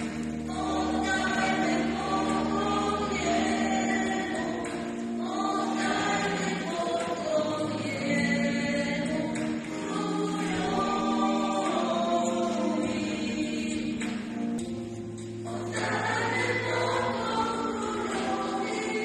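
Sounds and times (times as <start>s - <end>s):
vocal group singing in harmony: 0.0s - 19.0s.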